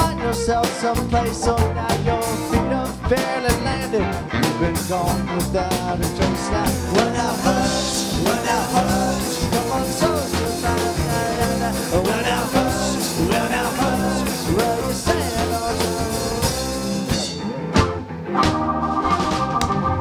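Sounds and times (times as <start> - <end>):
bass guitar: 0.0 - 20.0
drums: 0.0 - 20.0
electric guitars: 0.0 - 20.0
keyboards: 0.0 - 20.0.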